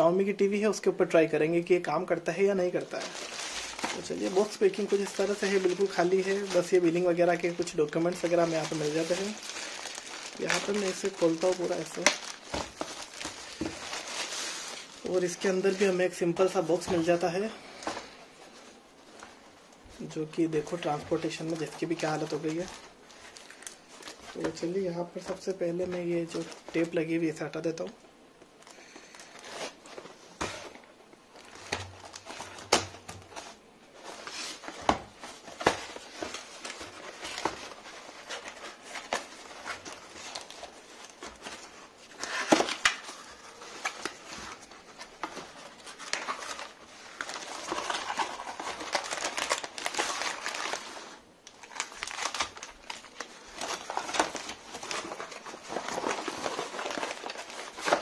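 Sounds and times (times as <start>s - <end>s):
foil bags crinkling: 2.7s - 19.2s, 20.6s - 24.6s, 31.3s - 58.0s.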